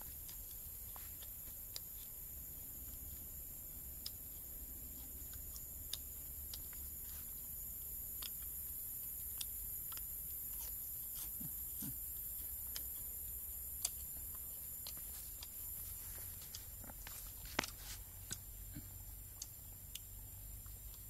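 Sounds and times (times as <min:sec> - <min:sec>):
person chewing with crunches: 0:00.0 - 0:21.0
steady high hiss: 0:00.0 - 0:21.0.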